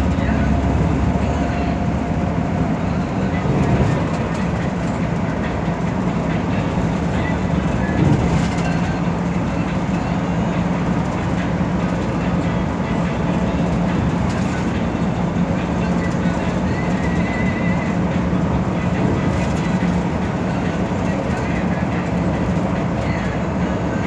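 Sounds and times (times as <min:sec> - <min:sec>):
bus engine drone: 0:00.0 - 0:24.0
road and tyre noise: 0:00.0 - 0:24.0.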